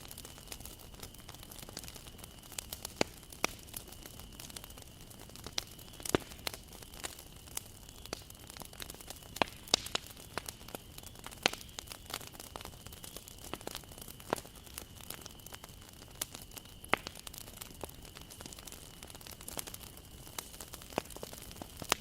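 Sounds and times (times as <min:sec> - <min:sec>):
bonfire crackling and popping: 0:00.0 - 0:22.0.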